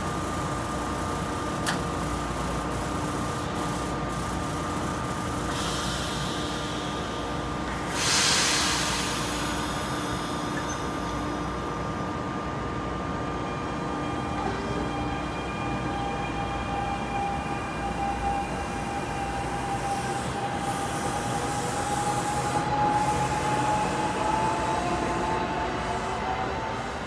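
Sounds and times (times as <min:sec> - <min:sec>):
train high whine: 0:00.0 - 0:27.0.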